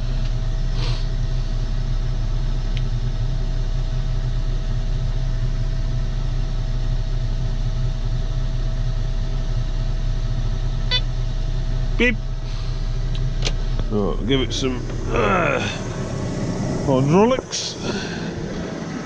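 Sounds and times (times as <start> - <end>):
constant whine: 0.0 - 19.0
tractor engine idling: 0.0 - 19.0.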